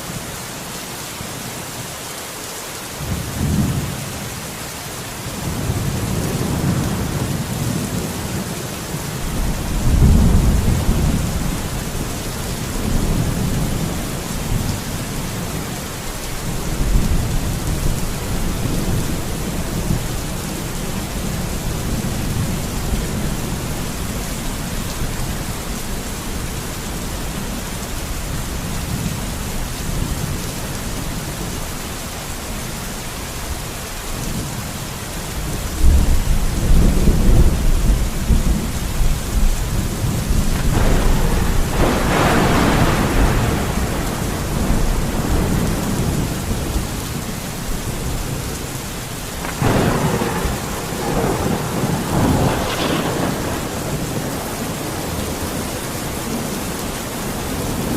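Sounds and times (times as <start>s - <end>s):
heavy rain: 0.0s - 57.9s
thunder rumbling: 5.4s - 32.0s, 35.4s - 57.9s.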